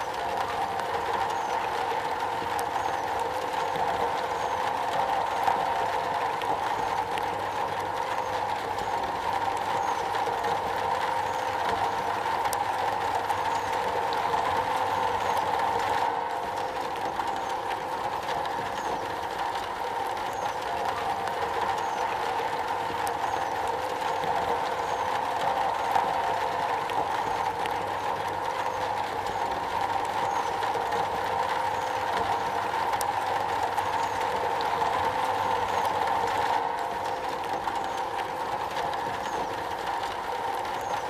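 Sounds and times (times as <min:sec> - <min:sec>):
rain drumming on a metal roof: 0:00.0 - 0:41.0.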